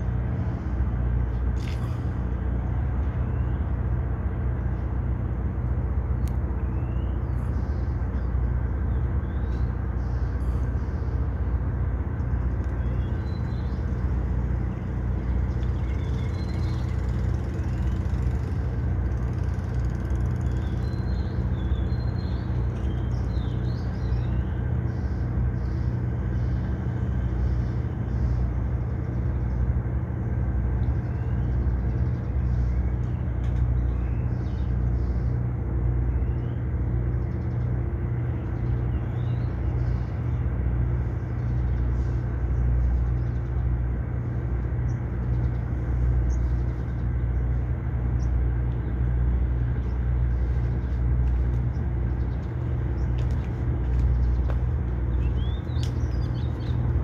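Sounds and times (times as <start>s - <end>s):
traffic engine rumble: 0.0s - 57.0s.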